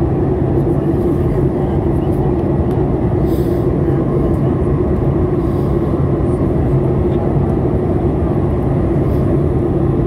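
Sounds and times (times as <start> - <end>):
airflow and jet engine roar: 0.0 - 10.0
constant low hum: 0.0 - 10.0.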